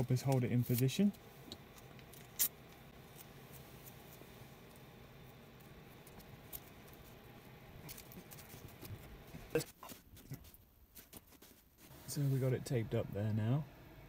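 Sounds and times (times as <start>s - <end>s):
tape crackling and rustling: 0.0s - 12.1s
low steady hum: 0.0s - 14.0s.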